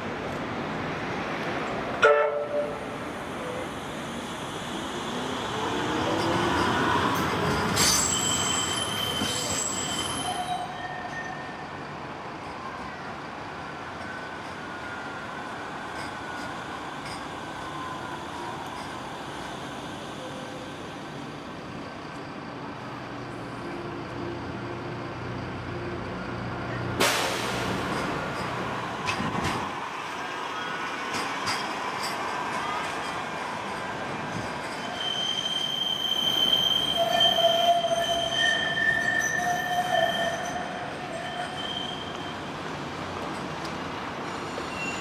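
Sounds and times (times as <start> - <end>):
tram running rumble: 0.0 - 45.0
tram wheels squealing on rails: 2.2 - 45.0.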